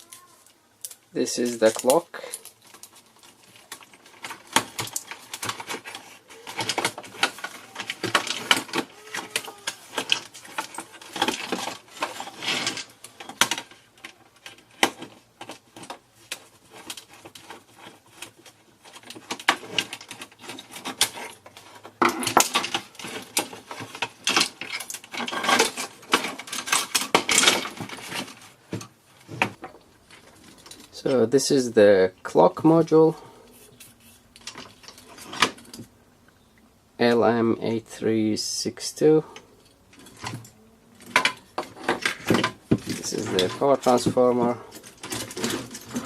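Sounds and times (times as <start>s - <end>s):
plastic parts clicking and clattering: 0.0s - 36.0s, 38.9s - 46.0s.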